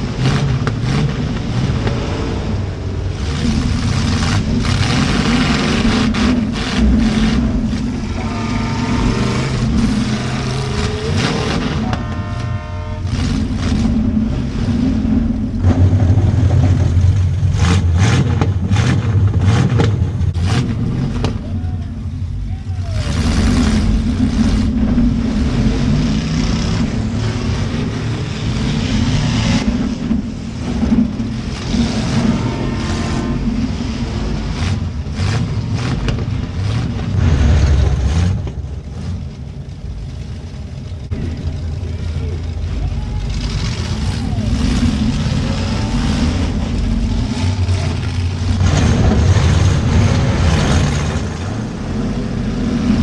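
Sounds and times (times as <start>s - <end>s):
car engines revving hard: 0.0s - 53.0s
cars crashing: 0.0s - 53.0s.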